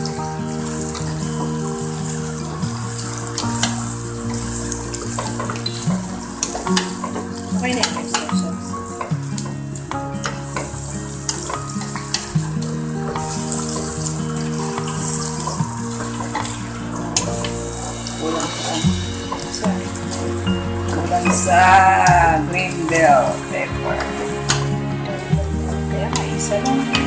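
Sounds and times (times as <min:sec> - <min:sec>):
background music with low notes: 0:00.0 - 0:27.0
steady hiss: 0:00.0 - 0:27.0.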